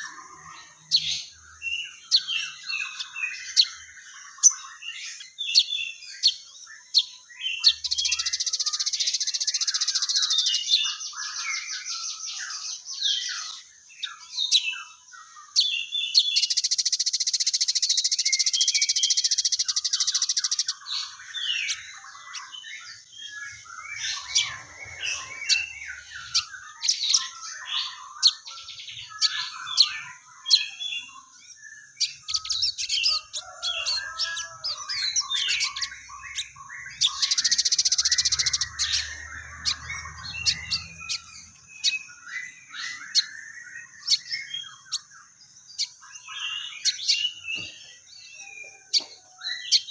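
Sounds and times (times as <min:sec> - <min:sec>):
sparrows chattering: 0:00.0 - 0:49.9
sunbird chirping and twittering: 0:00.0 - 0:49.9.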